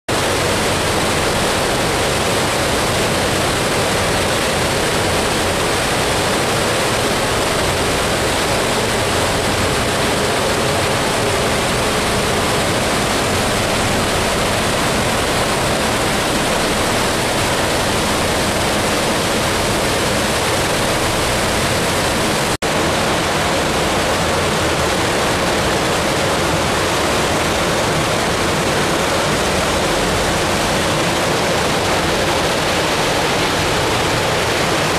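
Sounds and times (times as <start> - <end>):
rain falling: 0.1 - 34.9
rainwater pouring into reservoir: 0.1 - 34.9.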